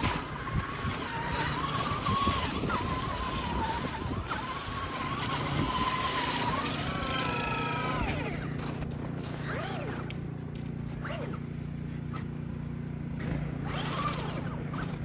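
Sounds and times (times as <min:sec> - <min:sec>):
electric motor whining: 0:00.0 - 0:12.3, 0:13.6 - 0:15.0.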